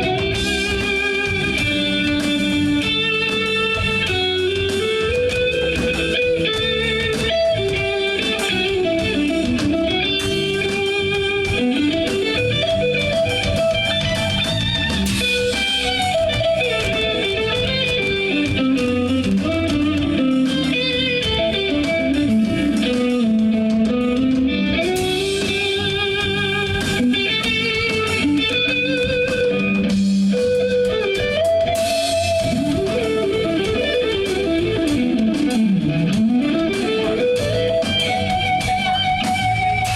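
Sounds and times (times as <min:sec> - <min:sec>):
live band playing instrumental: 0:00.0 - 0:39.9
sliding electric guitar melody: 0:00.0 - 0:39.9.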